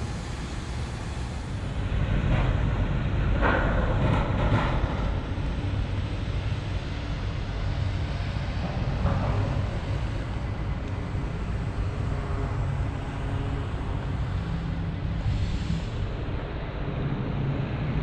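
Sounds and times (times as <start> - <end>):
city street rumble: 0.0 - 18.0.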